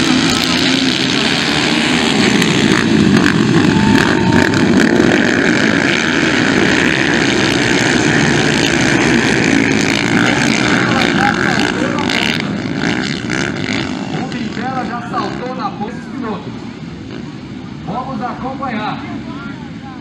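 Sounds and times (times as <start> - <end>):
dirt bike engines racing: 0.0 - 20.0.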